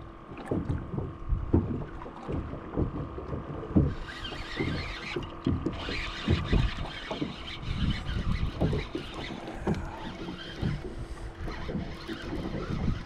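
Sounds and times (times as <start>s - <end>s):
waves slapping boat hull: 0.0s - 13.0s.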